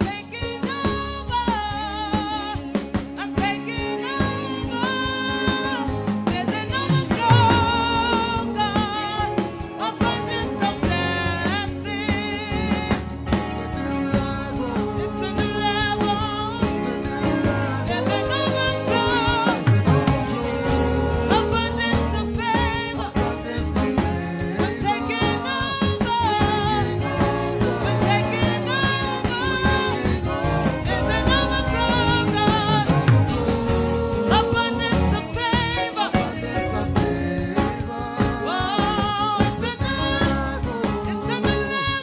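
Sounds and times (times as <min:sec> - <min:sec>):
live band playing: 0:00.0 - 0:42.0
people singing worship song: 0:00.0 - 0:42.0
steady drum beat: 0:00.0 - 0:42.0.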